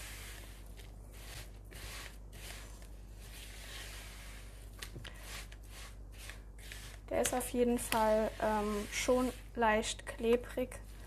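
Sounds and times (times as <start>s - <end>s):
spatula scraping dough in bowl: 0.0s - 10.1s.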